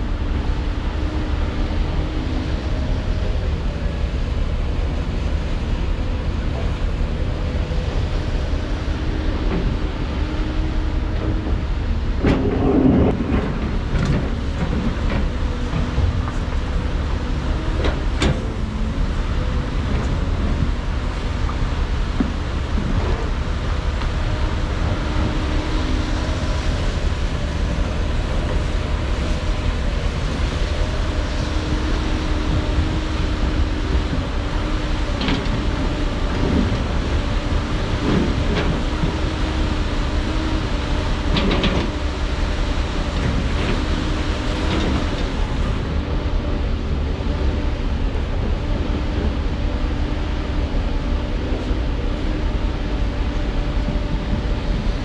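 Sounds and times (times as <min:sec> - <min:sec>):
diesel machinery rumbling: 0:00.0 - 0:55.0.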